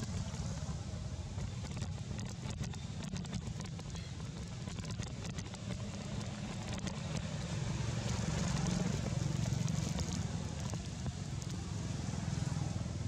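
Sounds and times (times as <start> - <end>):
faint crackles: 0.0 - 12.9
steady low rumble: 0.0 - 13.0.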